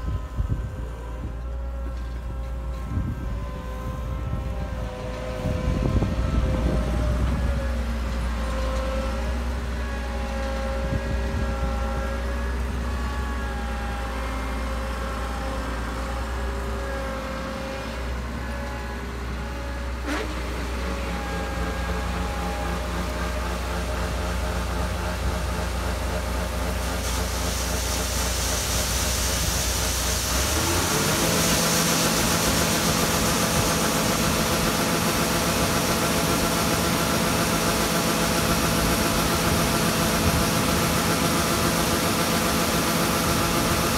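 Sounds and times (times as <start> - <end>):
combine harvester engine drone: 0.0 - 43.9.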